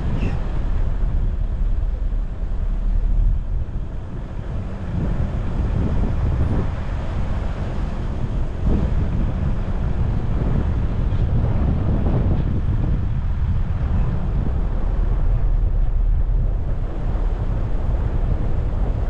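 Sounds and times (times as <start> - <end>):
vehicle road and engine noise: 0.0 - 19.0
wind buffeting microphone: 0.0 - 19.0.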